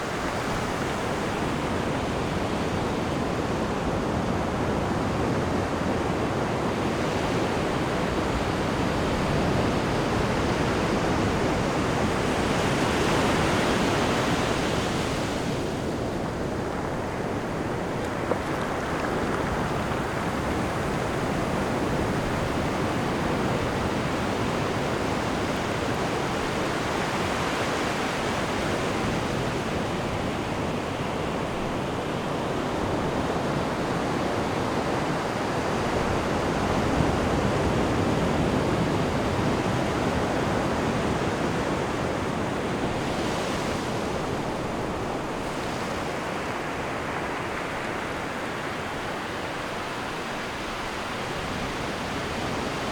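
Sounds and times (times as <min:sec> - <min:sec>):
ocean surf breaking on beach: 0:00.0 - 0:52.9.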